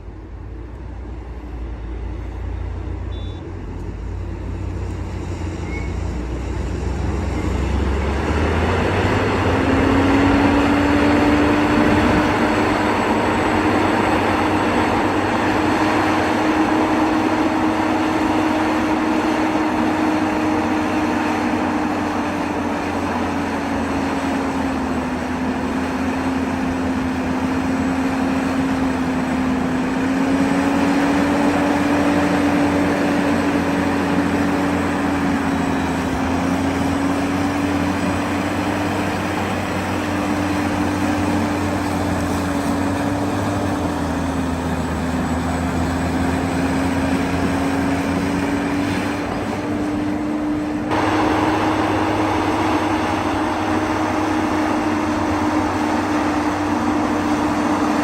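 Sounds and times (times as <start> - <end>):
vehicle motor running: 0.0 - 58.0.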